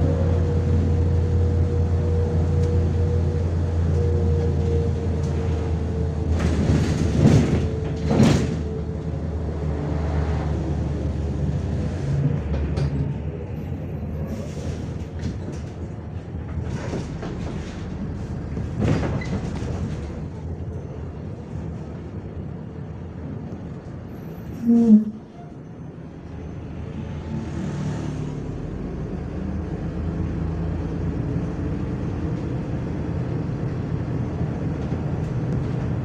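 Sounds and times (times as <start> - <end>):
bus engine hum: 0.0 - 36.0.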